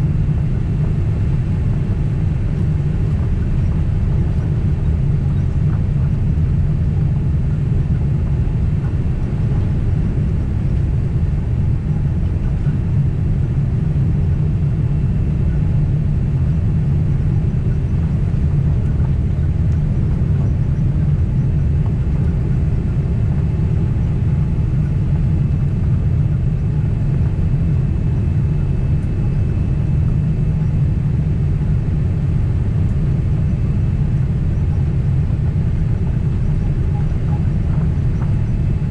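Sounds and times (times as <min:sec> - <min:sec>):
low rumble of aircraft engines: 0:00.0 - 0:38.9.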